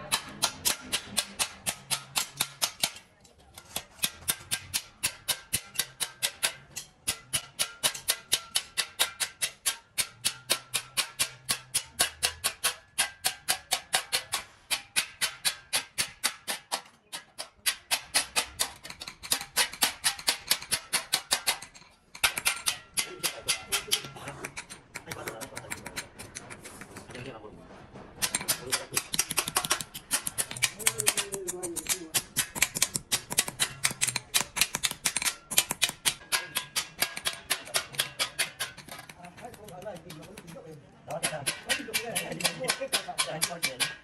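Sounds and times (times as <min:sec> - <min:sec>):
hand tool rapid strokes: 0:00.0 - 0:27.4, 0:28.2 - 0:44.0.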